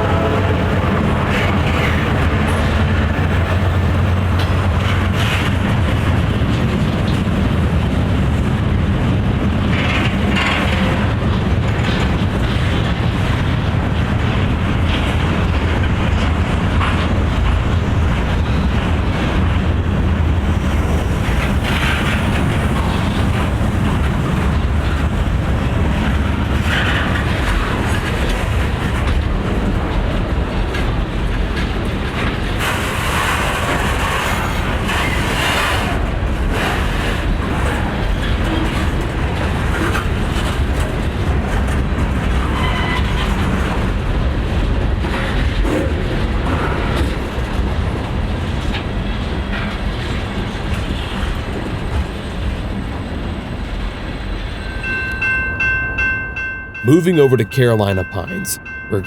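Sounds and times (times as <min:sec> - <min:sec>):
train wheels rumbling on rails: 0:00.0 - 0:54.6.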